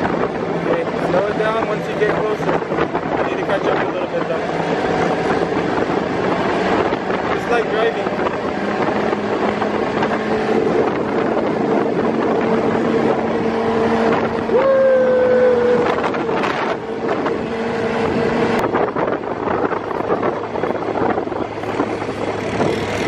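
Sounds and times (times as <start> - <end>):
buggy engine running: 0.0 - 23.0
wind buffeting microphone: 0.0 - 23.0.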